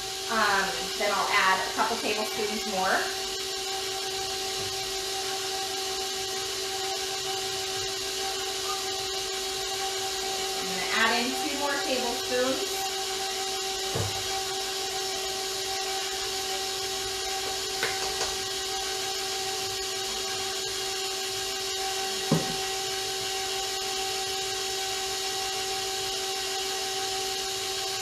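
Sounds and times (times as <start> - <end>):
electric mixer whining: 0.0 - 28.0.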